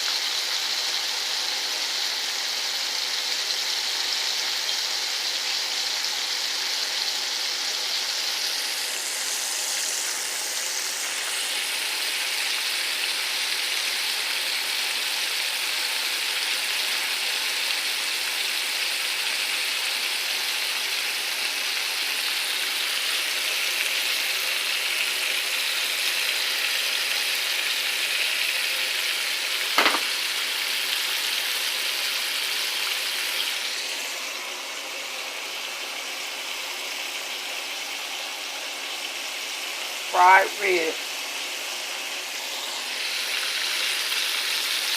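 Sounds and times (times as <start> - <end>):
ribs sizzling in hot oil: 0.0 - 44.9.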